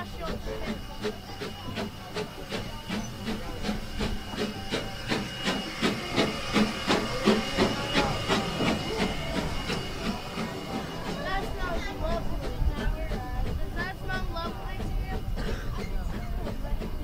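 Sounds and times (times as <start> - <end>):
steam hissing: 0.0 - 17.0
steam locomotive exhaust chuffs: 0.0 - 17.0.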